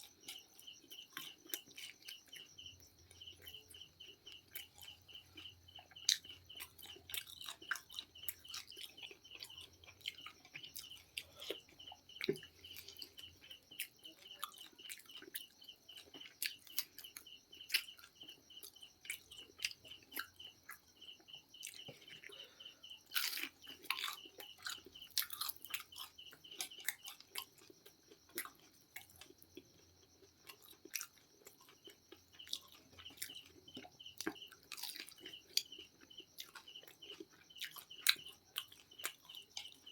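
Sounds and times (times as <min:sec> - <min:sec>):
chewing and crunching fried chicken: 0:00.0 - 0:39.9.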